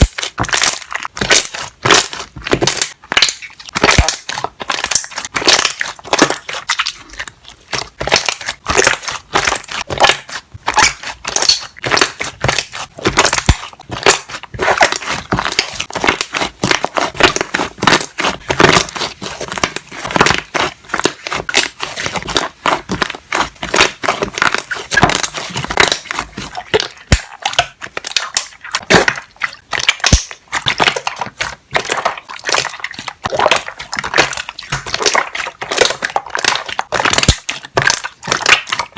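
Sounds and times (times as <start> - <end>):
slime popping and crackling: 0.0 - 38.9.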